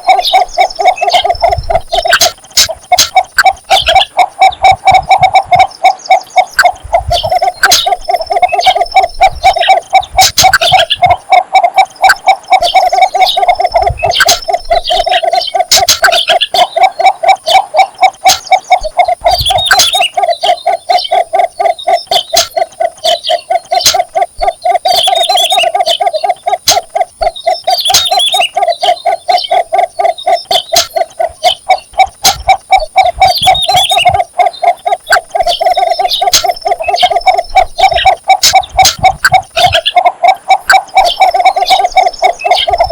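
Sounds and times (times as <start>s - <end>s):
bird chirps: 0.0s - 42.9s
bittern calling low repeated notes: 0.0s - 42.9s.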